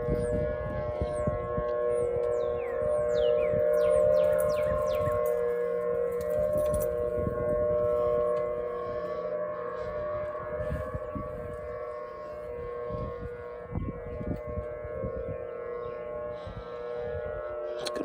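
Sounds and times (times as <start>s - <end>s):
outdoor warning sirens: 0.0s - 18.0s.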